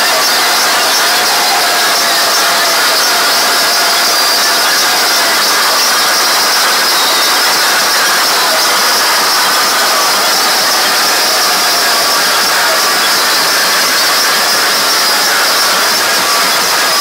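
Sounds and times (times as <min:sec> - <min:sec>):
distorted loud music: 0:00.0 - 0:17.0.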